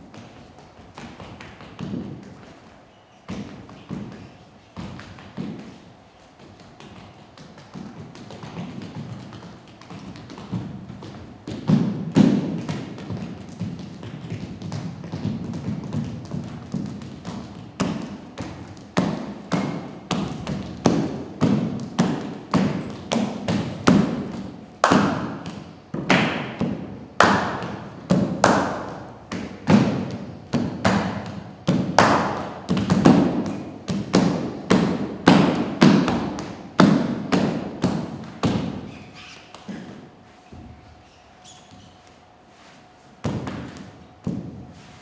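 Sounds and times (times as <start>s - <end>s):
feet stamping on stage floor: 0.0s - 45.0s.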